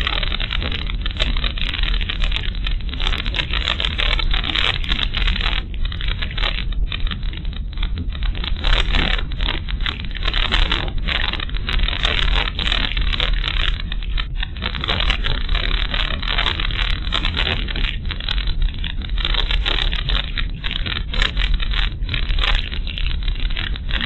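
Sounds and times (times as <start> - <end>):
road surface crackle: 0.0 - 24.0.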